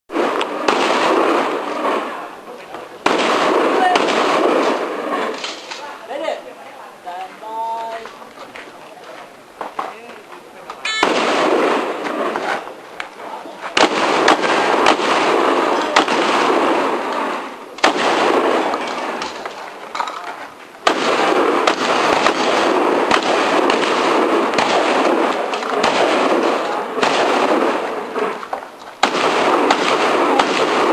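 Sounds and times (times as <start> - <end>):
shotgun shots: 0.1 - 6.3, 10.8 - 12.8, 13.7 - 30.9.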